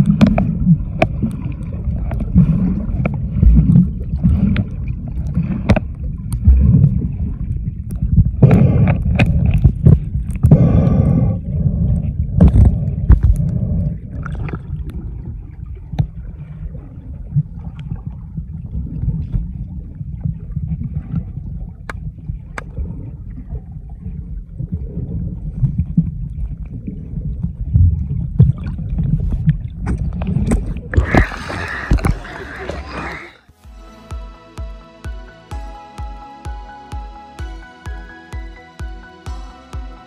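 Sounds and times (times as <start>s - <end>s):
faint underwater clicks: 0.0s - 16.6s, 17.2s - 33.2s
underwater rumble of moving water: 0.0s - 33.6s.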